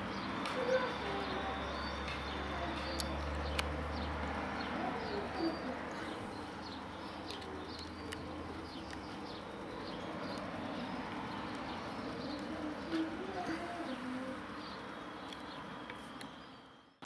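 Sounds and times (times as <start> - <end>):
birds calling and chirping: 0.0 - 17.0.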